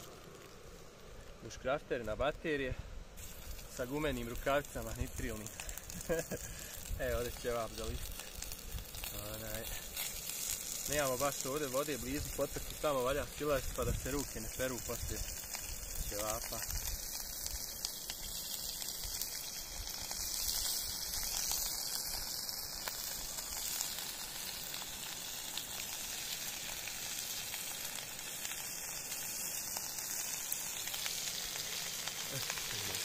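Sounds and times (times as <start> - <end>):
meat sizzling in a frying pan: 0.0 - 2.6, 3.2 - 33.0.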